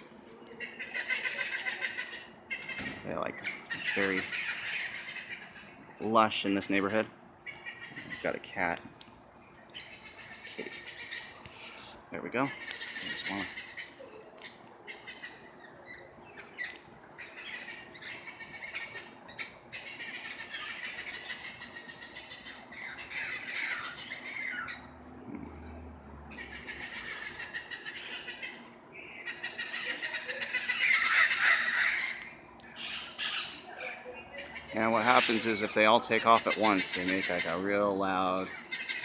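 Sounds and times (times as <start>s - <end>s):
parrots calling: 0.0s - 9.0s, 9.6s - 39.0s.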